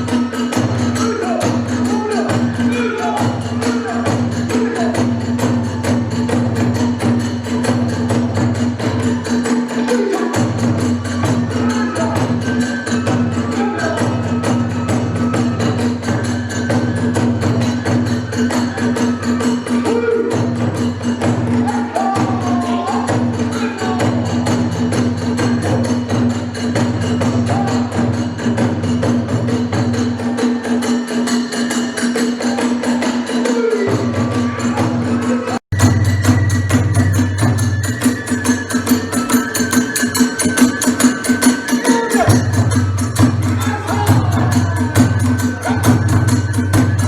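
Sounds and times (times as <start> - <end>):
bamboo flute: 0.0 - 47.0
hand cymbals clashing: 0.0 - 47.0
rapid drum strokes: 0.0 - 47.0.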